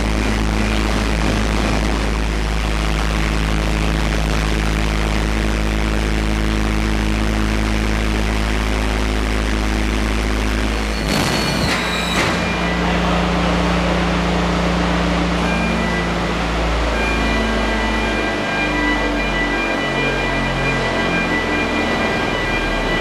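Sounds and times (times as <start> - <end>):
constant machine tones: 0.0 - 23.0
machinery low drone: 0.0 - 23.0.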